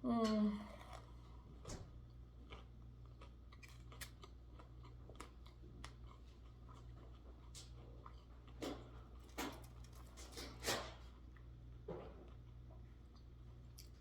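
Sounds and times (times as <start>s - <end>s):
low steady hum: 0.0s - 14.0s
chewing crunchy food: 0.7s - 14.0s.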